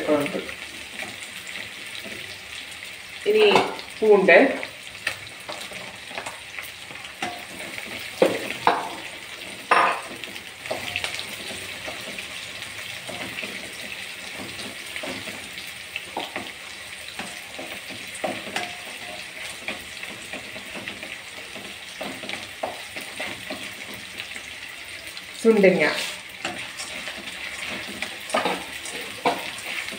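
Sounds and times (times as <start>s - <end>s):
food sizzling in a wok: 0.0s - 29.9s
wooden spatula scraping a pan: 5.0s - 29.9s.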